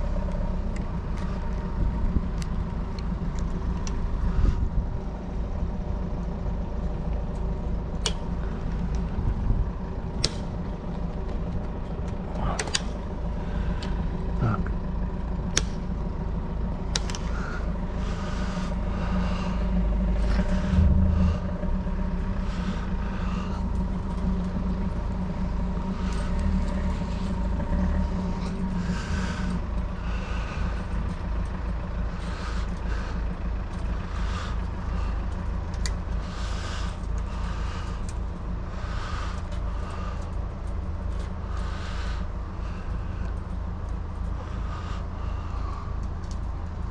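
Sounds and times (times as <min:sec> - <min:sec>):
low rumble: 0:00.0 - 0:46.9.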